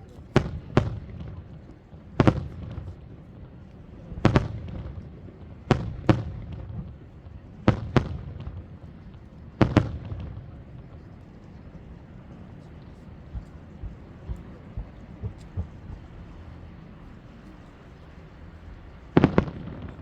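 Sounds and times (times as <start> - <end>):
fireworks bangs with rumbling echo: 0.3 - 12.5, 13.2 - 16.8, 19.0 - 20.0.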